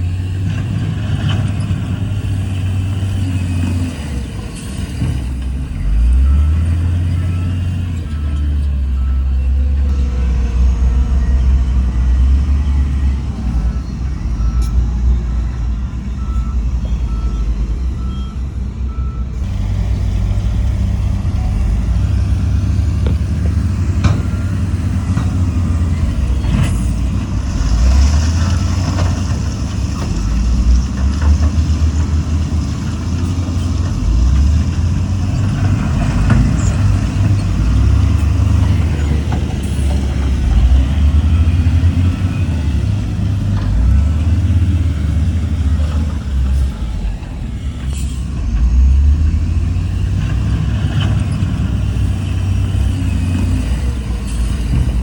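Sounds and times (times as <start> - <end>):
heavy diesel machinery running: 0.0 - 55.0
reversing alarm beeping: 0.7 - 30.8, 34.9 - 55.0.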